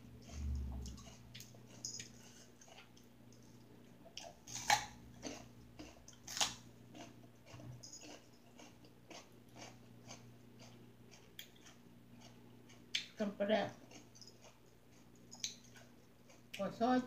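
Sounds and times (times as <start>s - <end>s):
person chewing with wet smacks: 0.1s - 13.2s, 13.8s - 16.8s.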